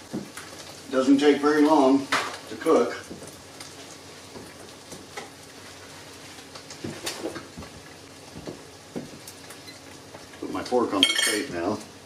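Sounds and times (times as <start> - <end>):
eggs sizzling in a wok: 0.0 - 12.0.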